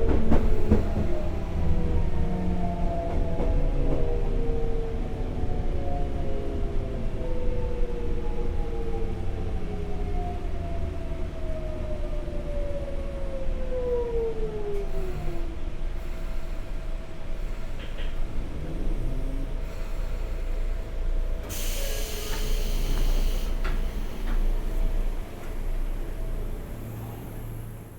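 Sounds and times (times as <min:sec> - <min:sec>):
electric train inverter whine: 0:00.0 - 0:27.9
train rail rumble: 0:00.0 - 0:27.9.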